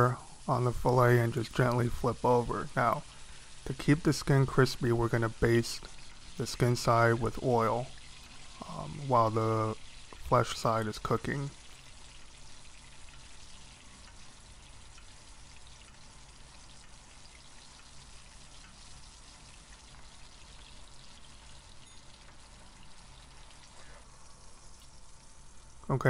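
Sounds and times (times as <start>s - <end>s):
fish frying in hot oil: 0.0s - 26.0s.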